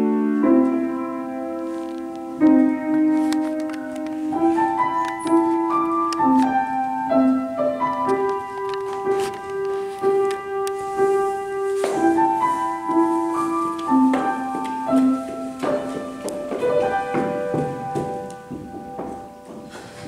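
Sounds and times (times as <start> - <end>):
grand piano melody: 0.0 - 20.0.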